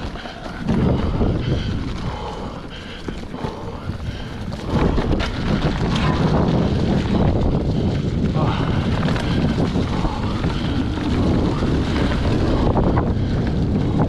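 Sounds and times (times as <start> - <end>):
bike tyres rolling on dirt: 0.0 - 14.0
wind buffeting microphone: 0.0 - 14.0.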